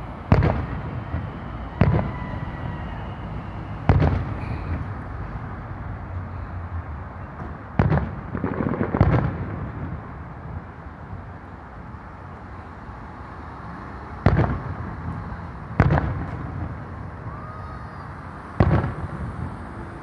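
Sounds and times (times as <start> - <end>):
distant firework bangs and crackles: 0.0 - 12.4, 13.8 - 20.0.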